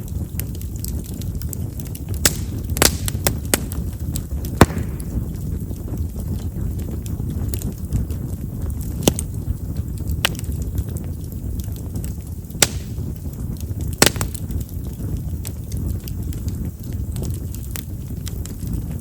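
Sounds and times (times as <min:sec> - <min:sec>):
campfire rumble: 0:00.0 - 0:19.0
firewood crackling: 0:00.0 - 0:19.0
sharp fire pops: 0:00.0 - 0:19.0.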